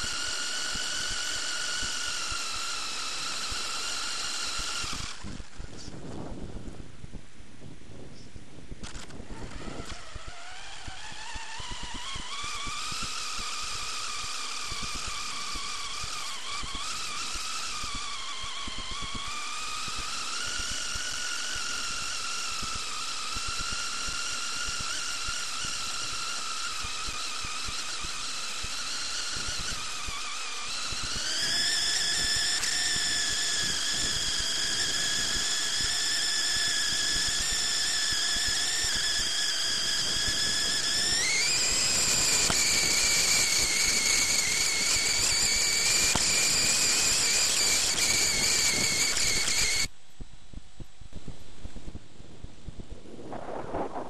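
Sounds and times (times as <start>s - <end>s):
rc buggy motor whine: 0.0s - 50.0s, 51.2s - 54.0s.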